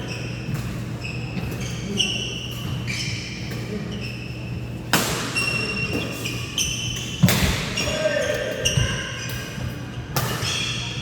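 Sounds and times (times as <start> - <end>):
shoes squeaking on floor: 0.0 - 4.8, 5.4 - 11.0.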